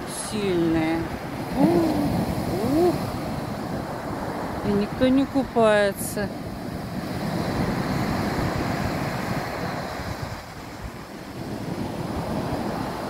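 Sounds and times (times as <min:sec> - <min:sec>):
heavy waves on pebble beach: 0:00.0 - 0:13.0
wind on microphone: 0:00.0 - 0:13.0.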